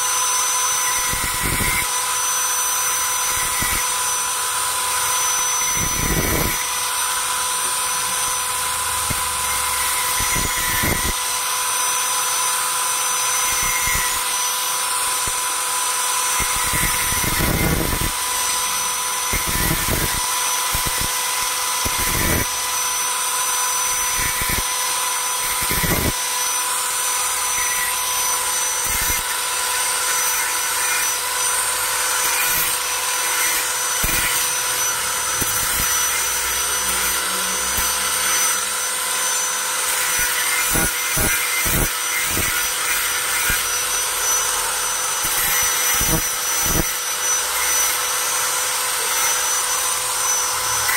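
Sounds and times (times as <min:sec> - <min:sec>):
angle grinder grinding steel: 0:00.0 - 0:50.9.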